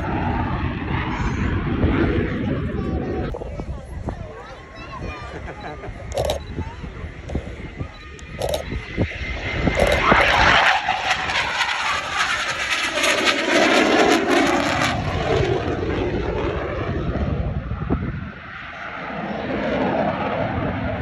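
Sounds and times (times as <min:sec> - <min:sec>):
aircraft engine flying past: 0:00.0 - 0:21.0.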